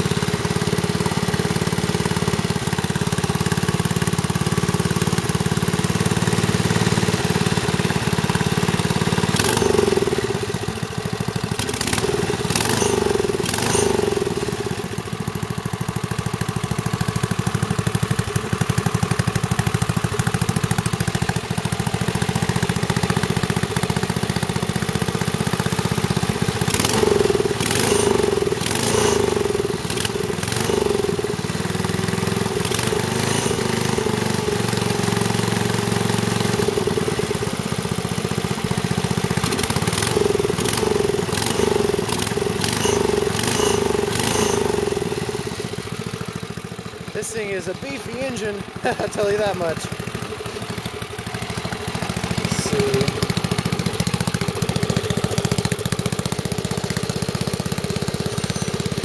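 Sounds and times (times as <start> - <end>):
engine clattering: 0.0 - 59.0
wood chipper engine running: 0.0 - 59.0.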